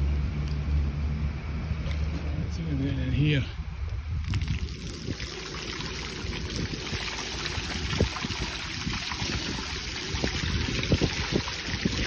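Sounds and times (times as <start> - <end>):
wind buffeting microphone: 2.3 - 12.0.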